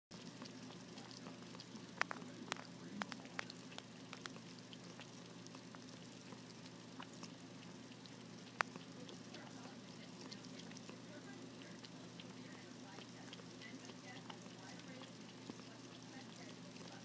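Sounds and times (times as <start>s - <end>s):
cat lapping water: 0.1s - 17.0s
pump hum: 0.1s - 17.0s
water trickling: 0.1s - 17.0s.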